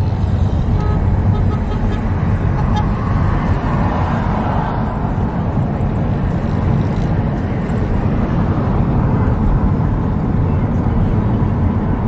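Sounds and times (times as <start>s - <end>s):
car driving on highway: 0.0s - 12.0s.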